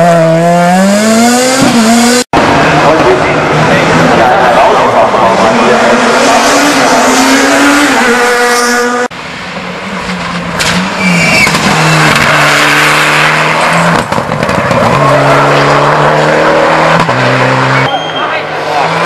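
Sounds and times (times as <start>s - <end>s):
rally car engines revving: 0.0s - 19.0s.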